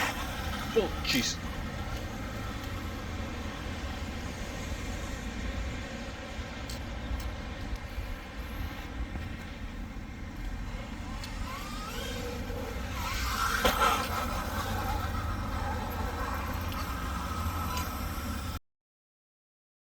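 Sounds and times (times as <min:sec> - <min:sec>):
rc truck motor running: 0:00.0 - 0:05.4, 0:07.7 - 0:18.6.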